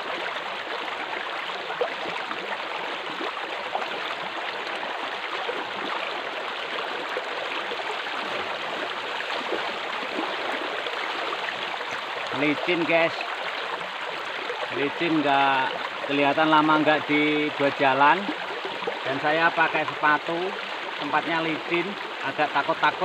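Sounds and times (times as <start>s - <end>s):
faint splashes from wading: 0.0s - 16.1s, 18.1s - 22.4s
water rushing down a channel: 0.0s - 23.0s.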